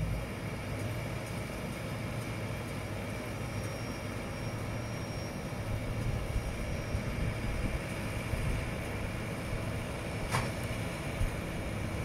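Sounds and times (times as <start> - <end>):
baler mechanical noise: 0.0 - 12.0
tractor engine running under load: 0.0 - 12.0.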